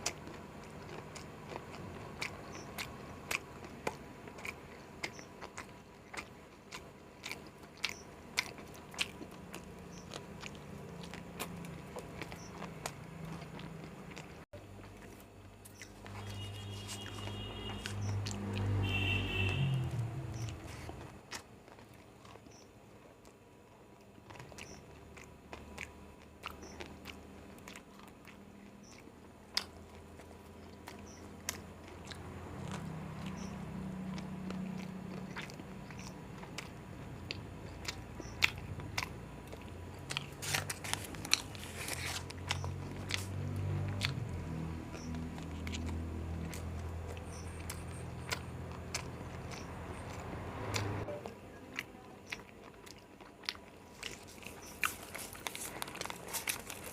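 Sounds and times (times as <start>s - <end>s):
biting and chewing food: 0.0s - 56.9s.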